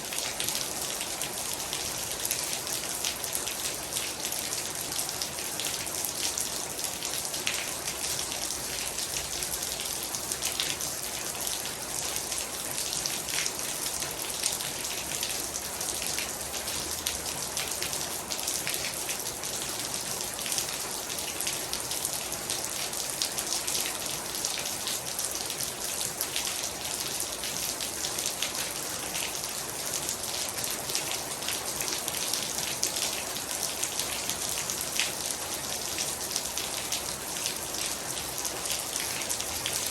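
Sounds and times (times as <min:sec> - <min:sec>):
heavy rain falling: 0:00.0 - 0:39.9
raindrops striking a surface: 0:00.0 - 0:39.9.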